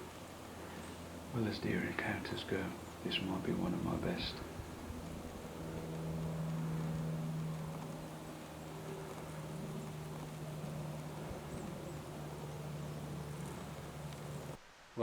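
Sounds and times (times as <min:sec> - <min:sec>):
low mechanical buzzing hum: 0:00.0 - 0:14.6
faint background hiss: 0:00.0 - 0:15.0.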